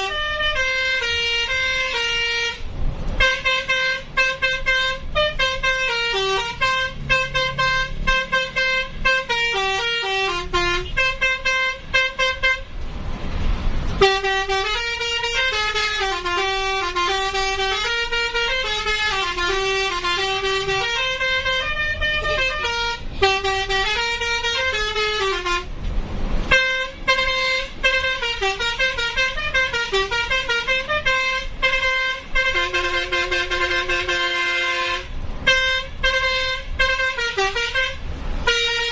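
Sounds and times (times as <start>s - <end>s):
multi-tone musical horn tune: 0.0s - 2.6s, 3.2s - 12.7s, 14.0s - 25.7s, 26.5s - 38.9s.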